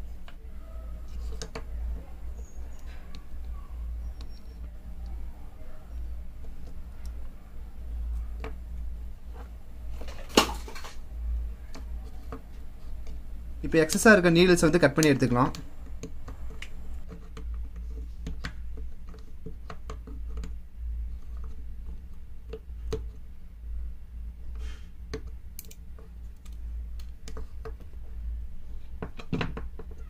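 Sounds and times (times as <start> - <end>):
steady low hum: 0.0 - 29.7.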